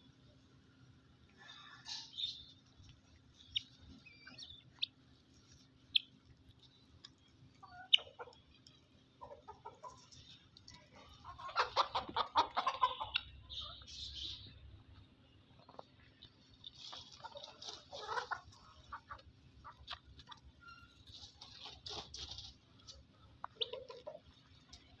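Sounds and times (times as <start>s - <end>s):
guineafowl harsh clucks: 1.4s - 25.0s.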